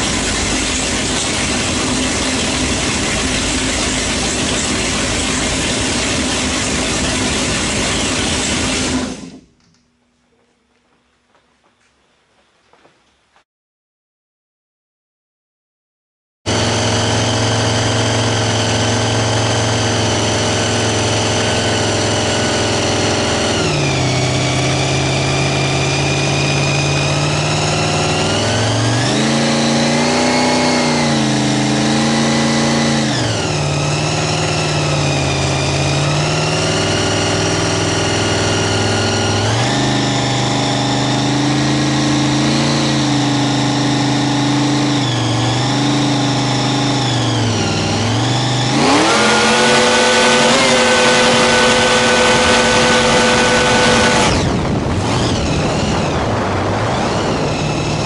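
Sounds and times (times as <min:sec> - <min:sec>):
supercharged boat engine revving: 0:00.0 - 0:09.5, 0:16.5 - 0:58.0.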